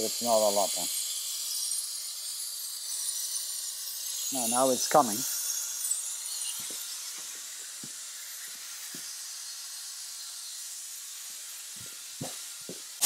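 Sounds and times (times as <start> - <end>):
vacuum bleeder hissing: 0.0 - 1.3, 3.7 - 13.0.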